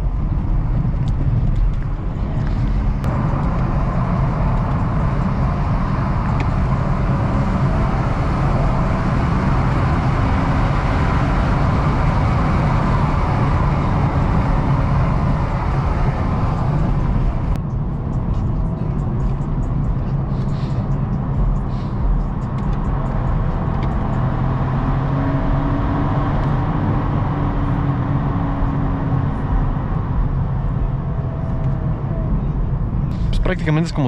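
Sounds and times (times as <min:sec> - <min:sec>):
car engine accelerating: 0:00.0 - 0:34.0
road and tyre noise: 0:00.0 - 0:34.0.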